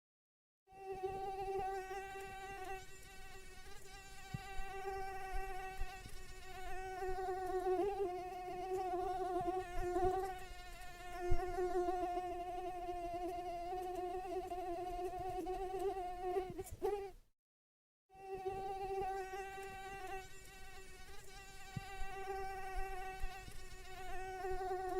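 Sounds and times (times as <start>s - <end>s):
mosquito whine: 0.7s - 17.1s, 18.1s - 24.9s.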